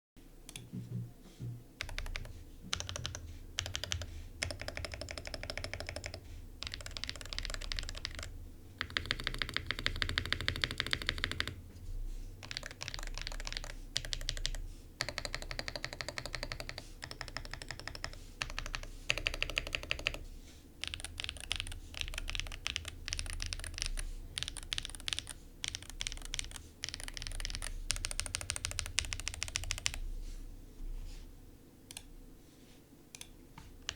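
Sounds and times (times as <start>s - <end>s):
mechanical keyboard typing: 1.8s - 11.6s, 12.4s - 20.2s, 20.8s - 30.0s, 33.1s - 33.9s.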